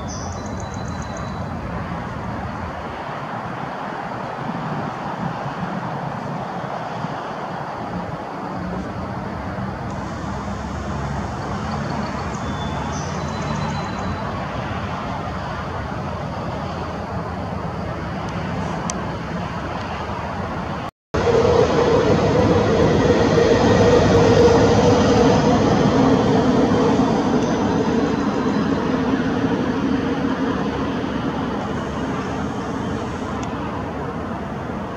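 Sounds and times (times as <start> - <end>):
engine rumble: 0.0 - 34.9.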